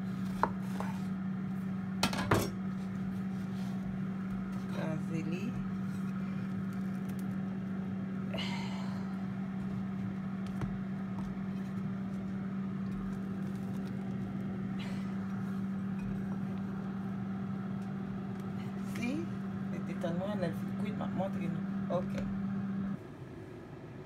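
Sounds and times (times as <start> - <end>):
air fryer fan humming: 0.0 - 24.0.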